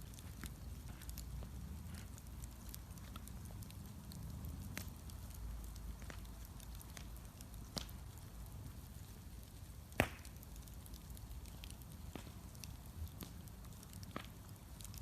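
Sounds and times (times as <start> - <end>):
bonfire flames rumbling: 0.0 - 15.0
fire pops and snaps: 0.0 - 15.0.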